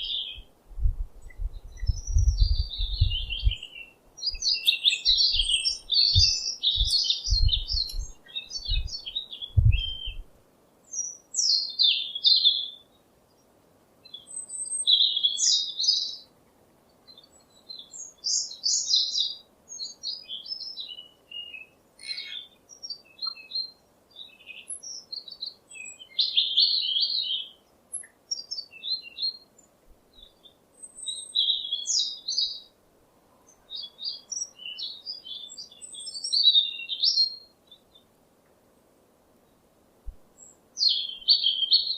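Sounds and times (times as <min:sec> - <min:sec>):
songbirds chirping and singing: 0:00.0 - 0:00.5, 0:01.2 - 0:38.2, 0:40.3 - 0:41.9.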